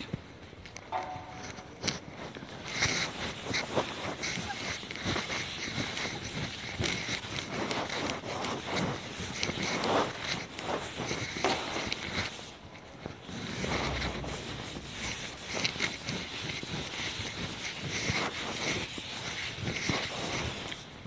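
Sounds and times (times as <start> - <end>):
duster rubbing on blackboard: 1.0 - 21.0.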